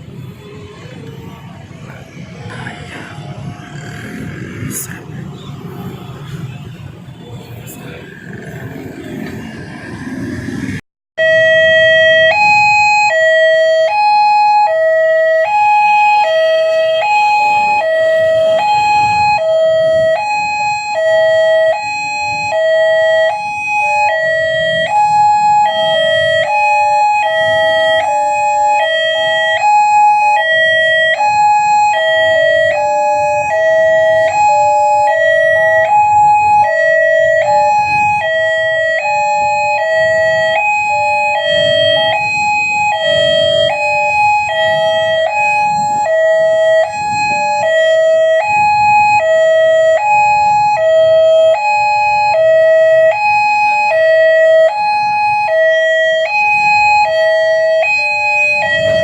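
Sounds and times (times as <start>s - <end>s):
level crossing two-tone alarm: 11.2s - 59.0s.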